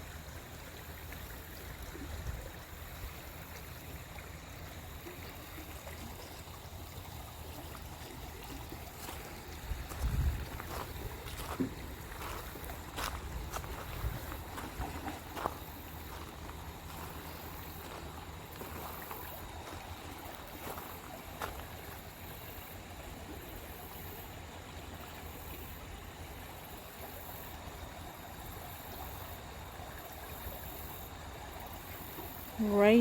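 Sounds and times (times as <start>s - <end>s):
stream water flowing: 0.0s - 33.0s.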